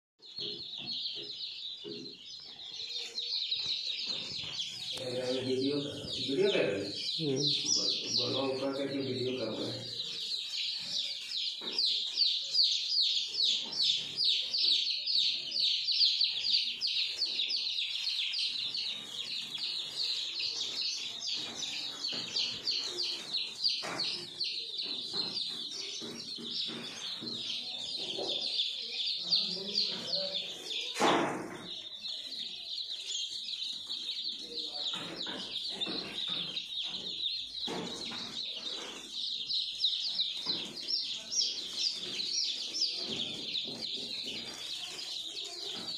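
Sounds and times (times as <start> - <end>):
chicks peeping: 0.2 - 45.9.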